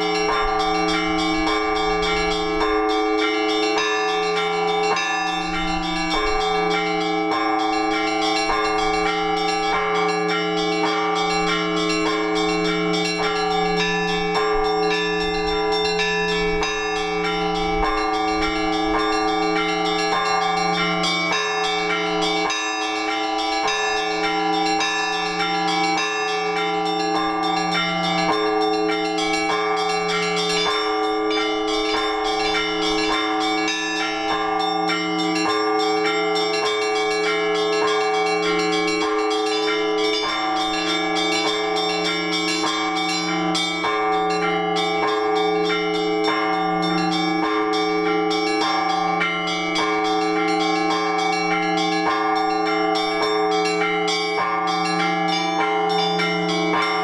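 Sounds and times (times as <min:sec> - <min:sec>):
large bells humming: 0:00.0 - 0:57.0.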